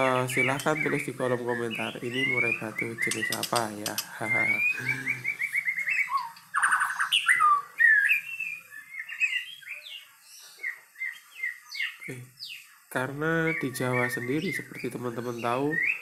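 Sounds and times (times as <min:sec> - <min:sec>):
bird singing whistled notes: 0:00.0 - 0:16.0
rapid buzzy bird chattering: 0:00.0 - 0:16.0.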